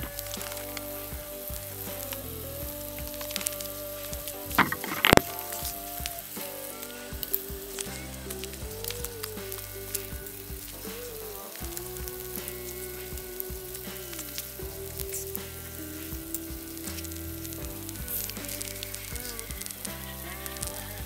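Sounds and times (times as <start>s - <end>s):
background music with held tones: 0.0s - 21.0s
steak sizzling in a skillet: 0.0s - 21.0s.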